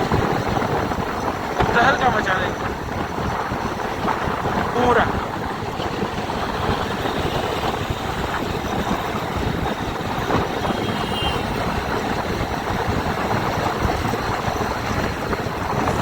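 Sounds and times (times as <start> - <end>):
motorcycle engine rumble: 0.0 - 16.0
road and wind noise: 0.0 - 16.0.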